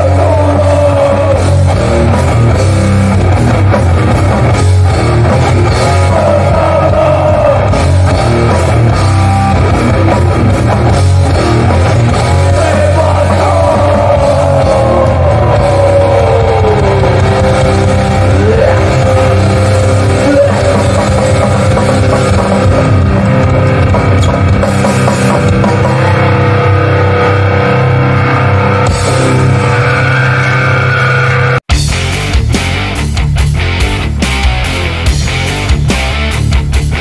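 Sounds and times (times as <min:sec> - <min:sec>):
guitar note sliding down: 0:00.0 - 0:36.4
punk band playing live: 0:00.0 - 0:37.0.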